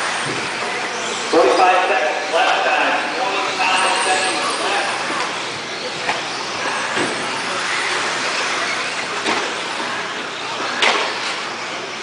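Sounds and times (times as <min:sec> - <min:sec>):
rc car motors whirring: 0:00.0 - 0:12.0.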